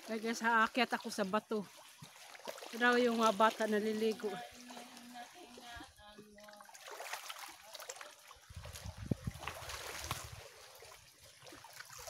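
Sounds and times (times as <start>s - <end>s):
water lapping among rocks: 0.0s - 12.0s.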